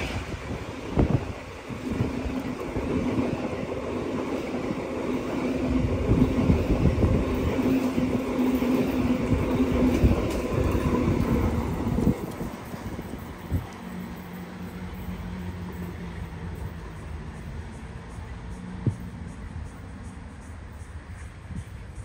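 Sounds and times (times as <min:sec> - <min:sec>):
train cars rumbling past: 0:00.0 - 0:22.0.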